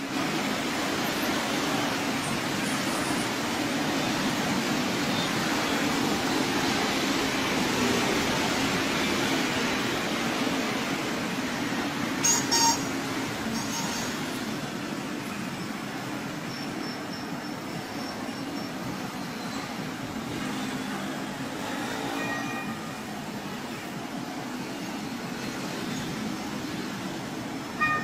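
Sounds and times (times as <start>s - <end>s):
train rumbling along rails: 0.0s - 28.0s.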